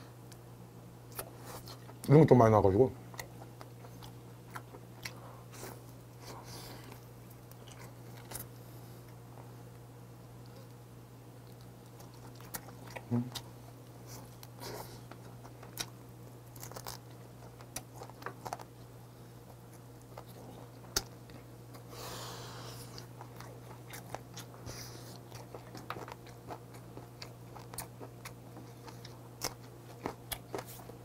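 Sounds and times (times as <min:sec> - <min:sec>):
faint steady hum: 0:00.0 - 0:31.0
person chewing meat: 0:03.1 - 0:31.0.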